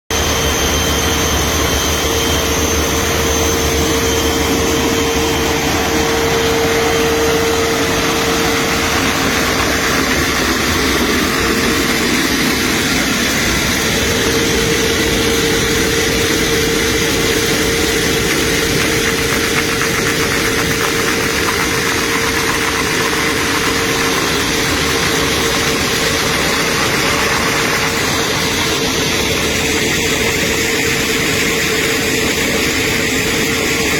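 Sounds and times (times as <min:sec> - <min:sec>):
floor grinding machine running: 0:00.1 - 0:33.9.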